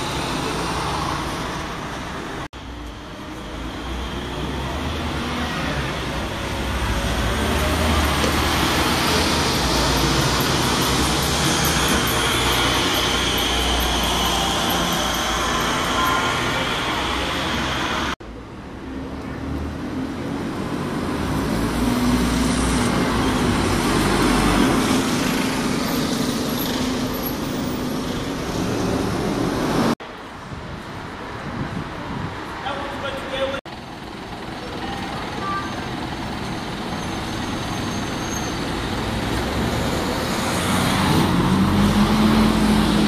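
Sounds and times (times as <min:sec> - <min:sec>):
bus engine passing: 0:00.0 - 0:30.4, 0:33.6 - 0:43.0
bus engine pulling away: 0:00.0 - 0:32.6, 0:33.7 - 0:43.0.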